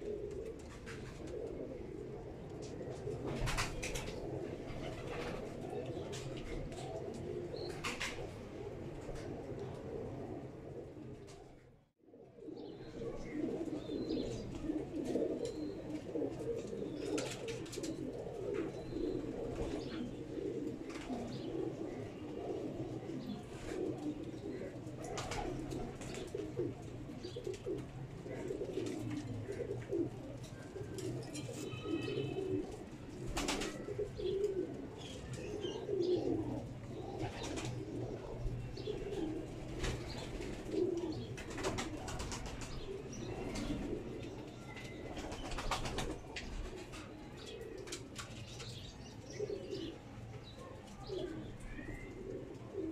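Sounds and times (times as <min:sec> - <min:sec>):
pigeons cooing: 0:00.0 - 0:52.9.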